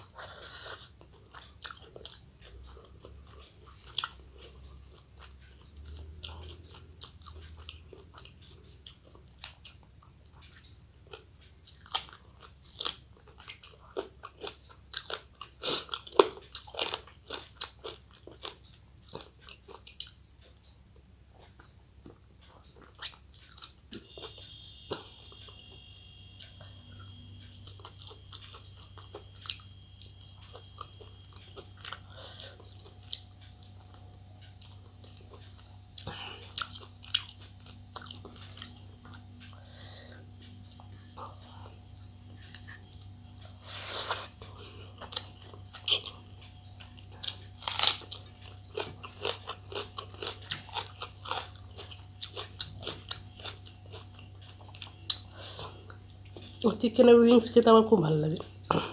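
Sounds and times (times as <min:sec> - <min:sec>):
person chewing: 0:00.0 - 0:56.6, 0:58.4 - 0:58.9
faint steady hum: 0:00.0 - 0:58.9.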